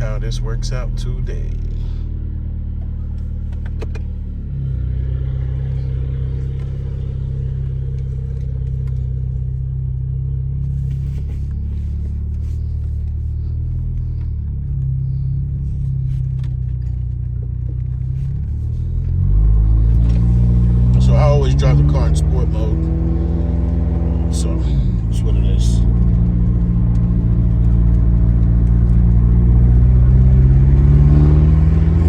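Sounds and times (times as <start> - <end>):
car exhaust drone: 0.0 - 32.0.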